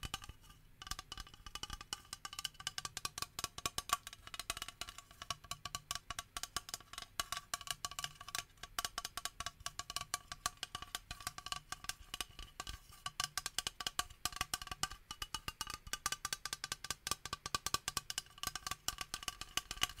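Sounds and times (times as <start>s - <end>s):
tapping on plastic bottle: 0.0s - 20.0s.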